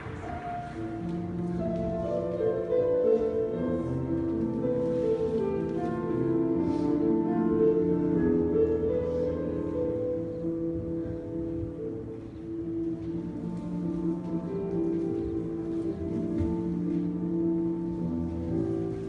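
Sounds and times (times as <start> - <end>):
slow instrumental music: 0.0 - 19.0.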